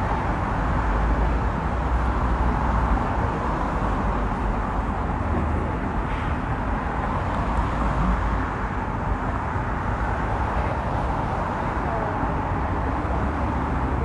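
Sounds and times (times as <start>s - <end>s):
traffic hum and hiss: 0.0s - 14.0s.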